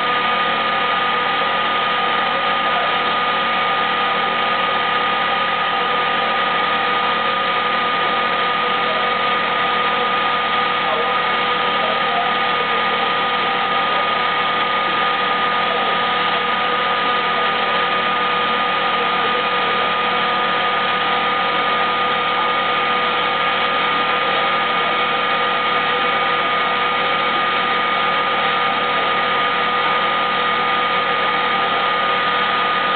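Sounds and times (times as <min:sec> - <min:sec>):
machinery humming with high whine: 0:00.0 - 0:32.9.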